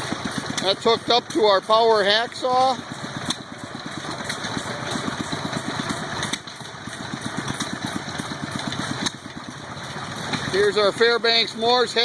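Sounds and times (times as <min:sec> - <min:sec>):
gas engine running: 0:00.0 - 0:12.0.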